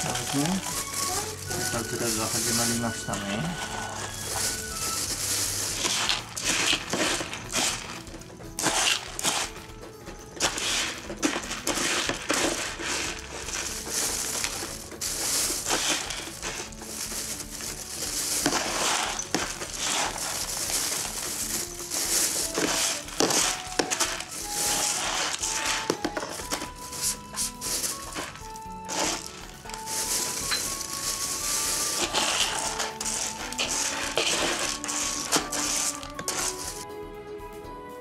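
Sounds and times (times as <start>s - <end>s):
cardboard being scratched and torn: 0.0s - 9.6s, 10.4s - 36.8s.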